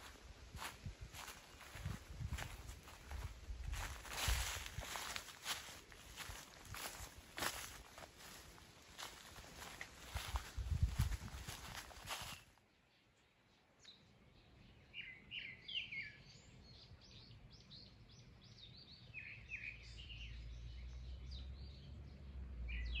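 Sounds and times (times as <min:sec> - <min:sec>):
small songbirds chirping: 0:00.0 - 0:23.0.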